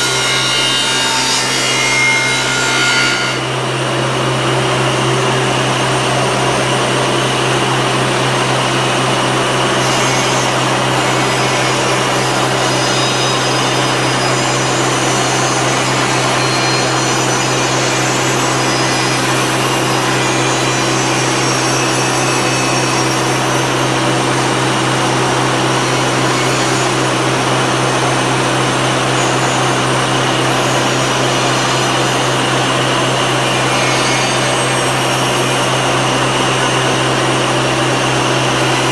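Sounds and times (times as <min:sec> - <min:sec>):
loud machine noise: 0:00.0 - 0:38.9.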